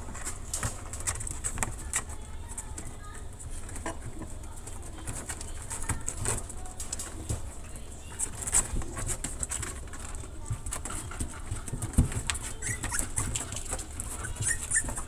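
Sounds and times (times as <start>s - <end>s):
puppies squeaking and grunting: 0.0s - 15.0s
puppies suckling: 0.0s - 15.0s.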